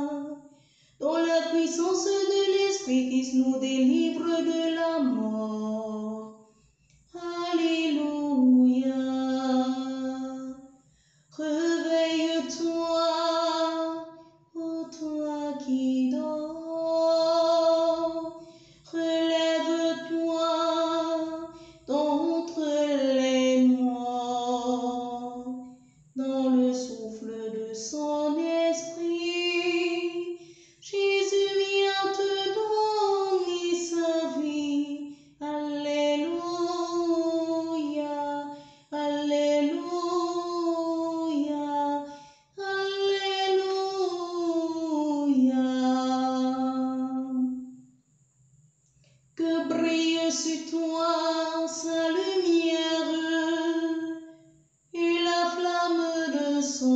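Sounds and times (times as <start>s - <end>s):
woman singing a hymn solo: 0.0s - 0.4s, 1.0s - 6.4s, 7.1s - 10.6s, 11.4s - 25.6s, 26.2s - 47.6s, 49.4s - 54.2s, 54.9s - 56.9s.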